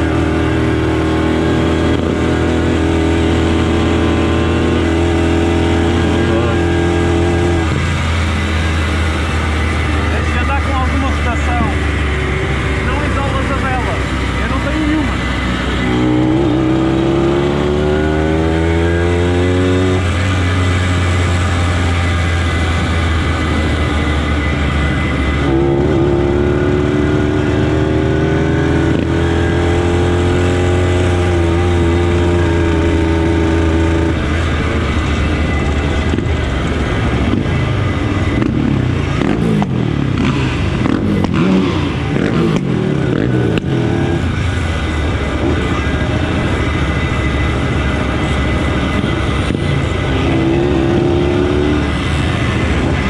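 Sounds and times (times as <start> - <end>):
motorcycle engine: 0.0 - 53.0.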